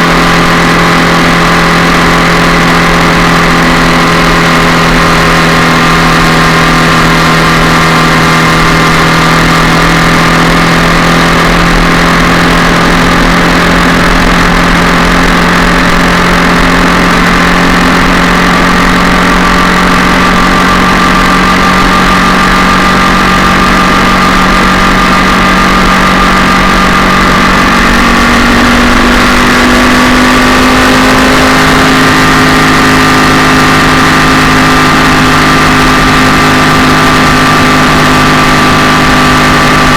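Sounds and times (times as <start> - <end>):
loud motorcycle engine running: 0.0 - 39.9.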